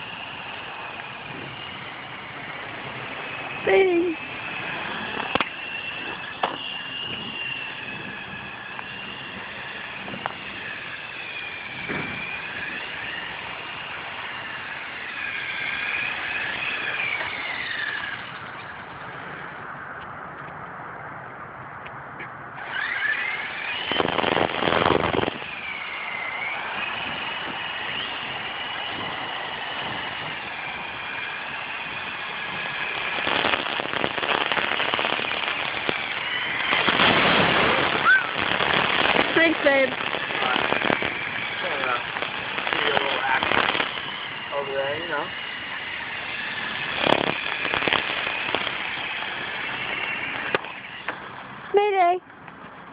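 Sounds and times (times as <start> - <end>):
rc helicopter motor whining: 0.0 - 20.5, 22.5 - 52.2
rotor blades fluttering chop: 0.0 - 20.7, 22.5 - 52.8.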